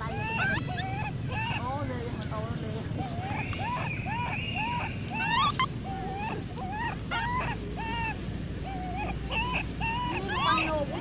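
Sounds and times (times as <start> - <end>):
baby monkey whimpering: 0.0 - 1.9, 2.8 - 11.0.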